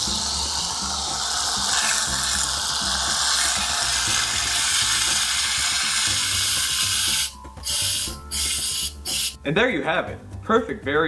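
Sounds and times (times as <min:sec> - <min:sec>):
aerosol cream cans sputtering hiss: 0:00.0 - 0:09.4.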